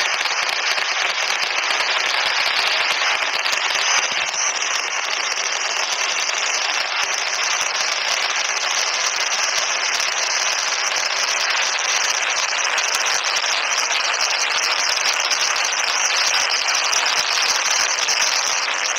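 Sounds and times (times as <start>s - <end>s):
firecrackers crackling: 0.0s - 18.9s.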